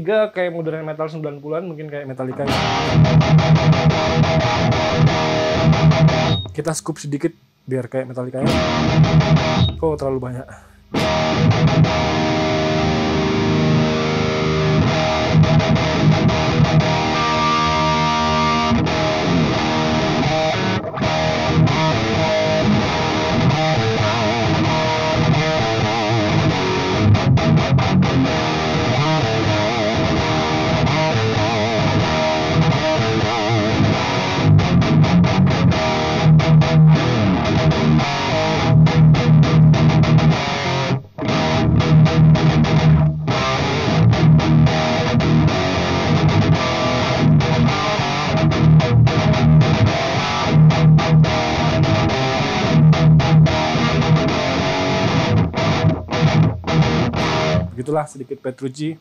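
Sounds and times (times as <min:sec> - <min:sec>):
distorted electric guitar metal riff: 0:02.3 - 0:06.6, 0:08.4 - 0:10.0, 0:10.6 - 0:57.8.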